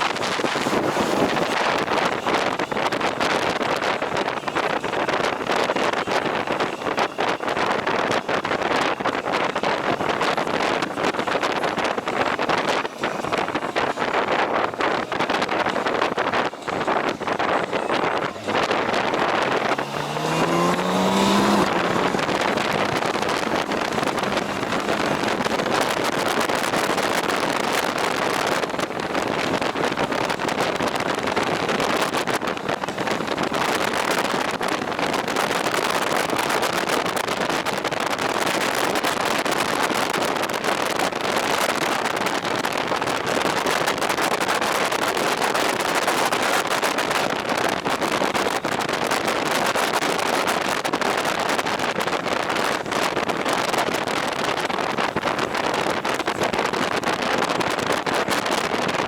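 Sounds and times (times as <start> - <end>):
motorcycle engine: 0.0 - 14.1, 15.7 - 58.4
wind rush on microphone: 0.0 - 59.0.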